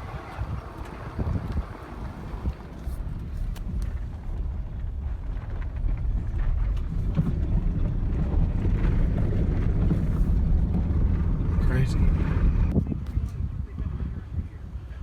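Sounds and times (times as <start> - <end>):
vehicle driving rumble: 0.0 - 14.1
wind noise on microphone: 0.0 - 15.0.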